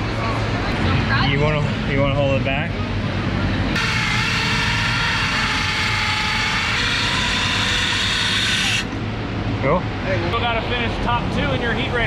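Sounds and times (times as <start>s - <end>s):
racing kart engines buzzing: 0.0s - 12.0s.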